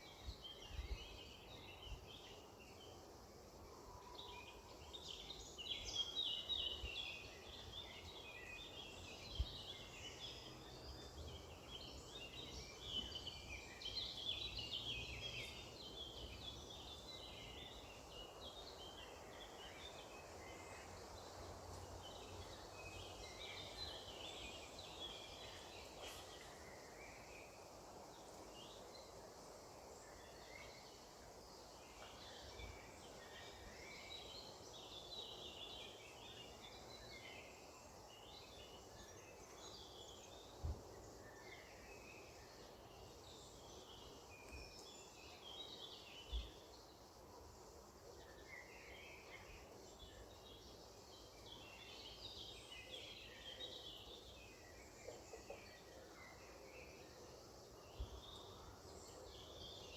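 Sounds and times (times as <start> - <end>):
low background hiss: 0.0 - 59.9
songbirds chirping: 0.0 - 59.9.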